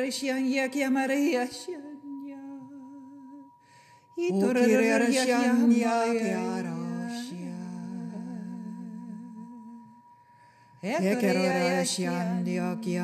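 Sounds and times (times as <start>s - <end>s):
wordless sung voices: 0.0s - 13.0s
steady high tone: 1.4s - 13.0s.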